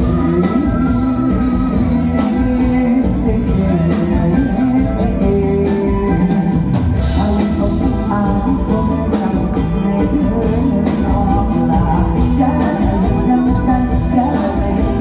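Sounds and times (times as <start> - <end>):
drum kit beat: 0.0 - 15.0
live band playing: 0.0 - 15.0.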